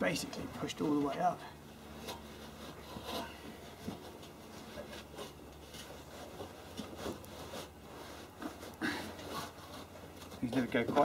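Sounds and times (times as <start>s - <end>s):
insulation rubbing and scraping: 0.0s - 11.0s.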